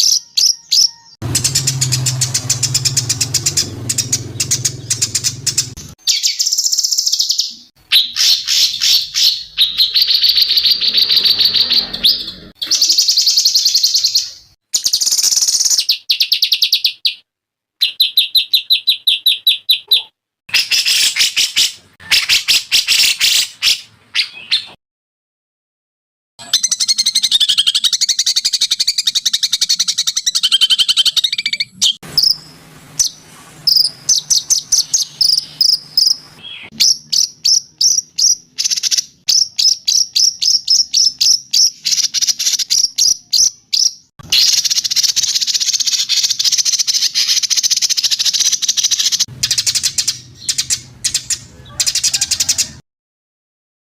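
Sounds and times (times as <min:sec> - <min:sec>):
high bird trills: 0:00.0 - 0:17.0, 0:26.4 - 0:52.6
fast repeated bird chirps: 0:00.0 - 0:17.2, 0:17.8 - 0:24.8, 0:26.4 - 0:52.8.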